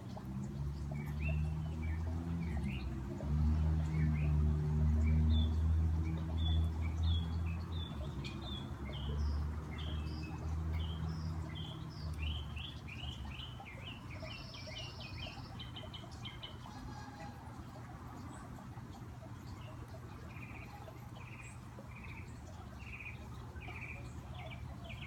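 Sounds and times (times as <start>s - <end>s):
low engine-like hum: 0.0s - 25.0s
songbirds chirping: 0.0s - 25.0s.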